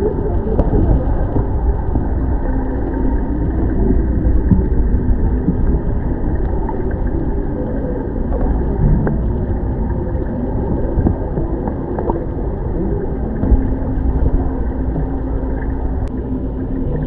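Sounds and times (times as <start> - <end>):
low hum: 0.0 - 17.0
underwater rumble and gurgling: 0.0 - 17.0.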